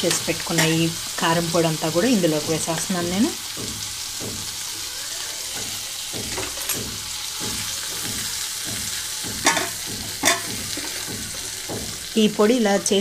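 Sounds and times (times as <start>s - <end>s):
beans sizzling in oil: 0.0s - 13.0s.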